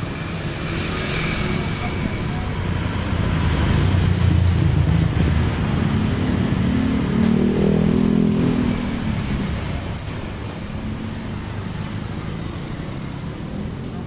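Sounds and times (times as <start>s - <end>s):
car engine idling and revving: 1.4s - 14.0s.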